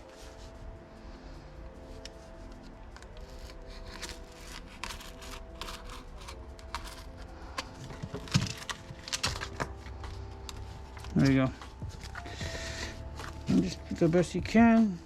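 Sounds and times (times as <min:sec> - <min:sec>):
sheet crinkling and rustling: 0:02.0 - 0:14.2.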